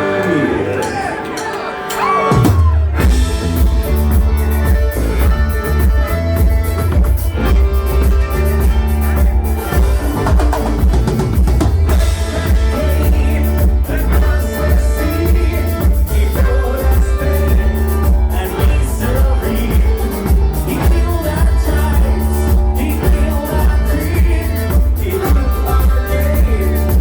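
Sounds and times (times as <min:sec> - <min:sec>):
drum kit: 0:00.0 - 0:27.0
rock band on folk instruments: 0:00.0 - 0:27.0
heavy steady bass: 0:02.4 - 0:27.0.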